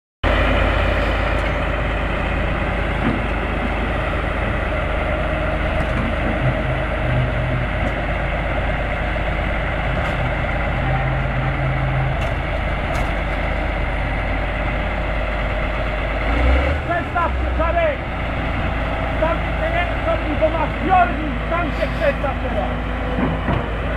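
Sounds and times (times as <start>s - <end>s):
diesel machinery engine drone: 0.2s - 23.9s.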